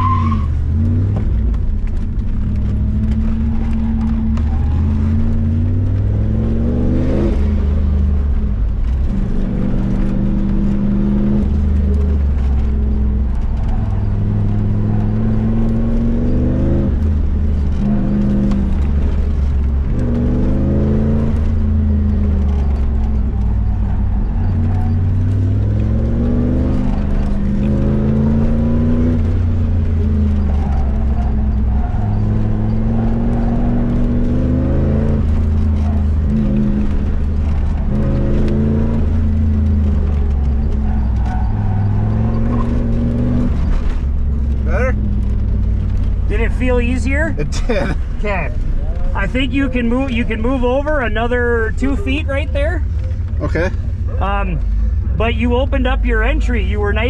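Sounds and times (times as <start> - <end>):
car engine revving hard: 0.0 - 57.0.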